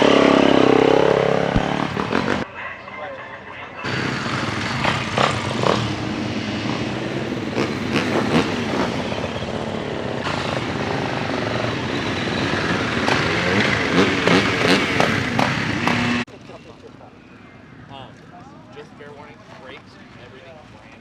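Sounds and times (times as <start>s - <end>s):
motocross bike engines revving: 0.0s - 2.5s, 3.8s - 21.0s.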